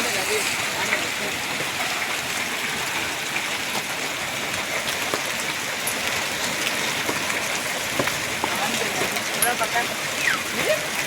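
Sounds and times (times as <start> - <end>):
hailstones striking hard surfaces: 0.0 - 11.0
heavy rain pouring: 0.0 - 11.0.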